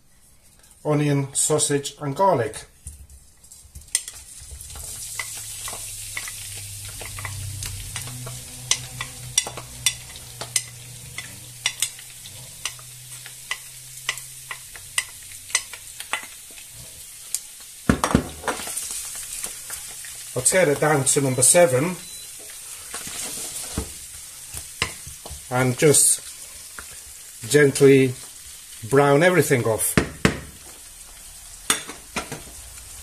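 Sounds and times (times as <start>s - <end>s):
food sizzling in oil: 1.4s - 33.0s.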